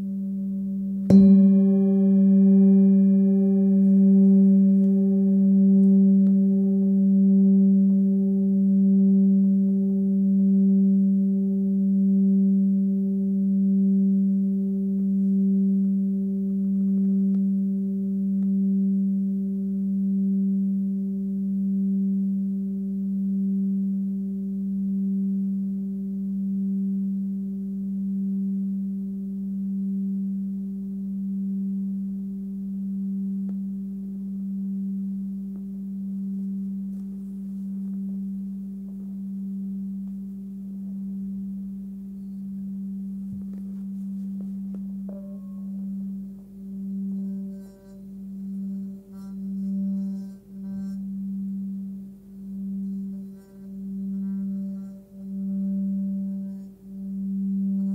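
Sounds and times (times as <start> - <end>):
singing bowl humming: 0.0 - 57.9.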